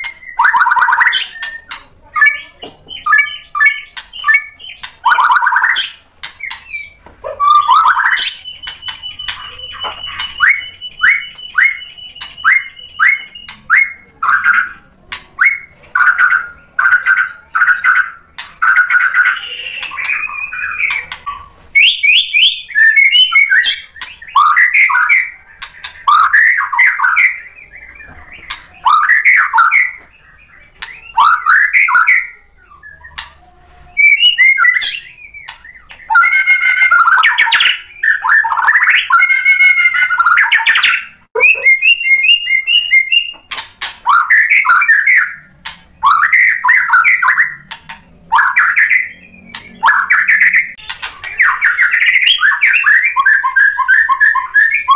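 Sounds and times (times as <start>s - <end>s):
bird singing whistles: 0.0s - 14.8s, 15.4s - 47.7s, 48.3s - 54.9s.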